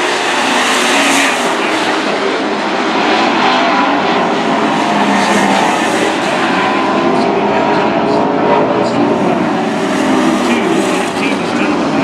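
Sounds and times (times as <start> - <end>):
racing truck engines: 0.0 - 12.0.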